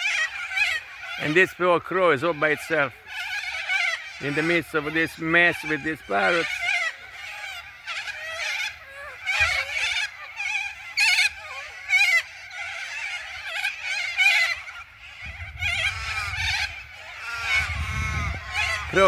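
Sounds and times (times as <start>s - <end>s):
corellas screeching and chattering: 0.0s - 19.0s.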